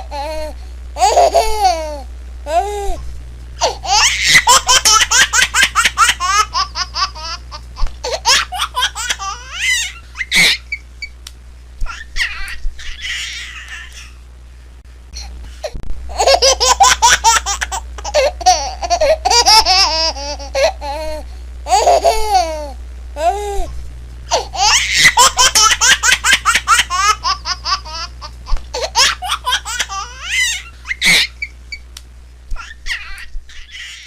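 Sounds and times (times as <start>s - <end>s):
baby giggling: 0.0s - 3.0s, 3.6s - 10.8s, 11.9s - 14.2s, 16.1s - 23.7s, 24.3s - 31.6s, 32.6s - 34.0s.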